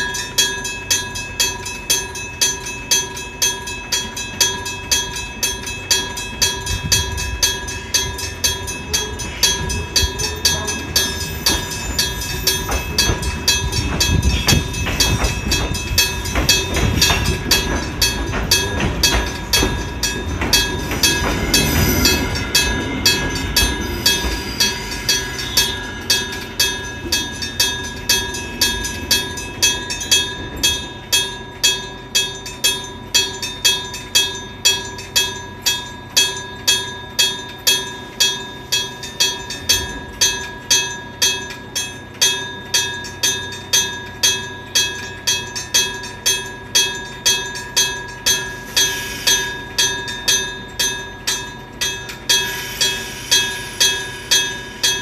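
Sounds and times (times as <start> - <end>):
level crossing bell ringing: 0.0 - 55.0
train rumble: 0.0 - 55.0.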